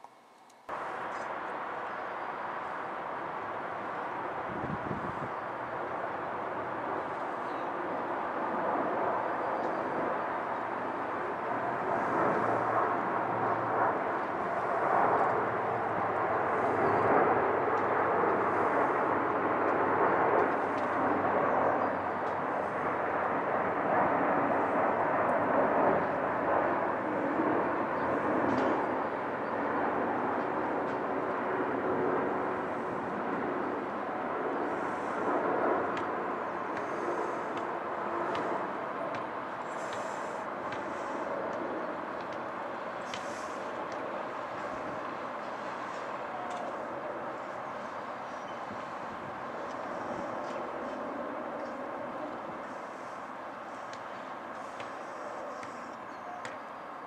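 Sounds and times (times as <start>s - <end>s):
jet airliner passing overhead: 0.7s - 57.0s.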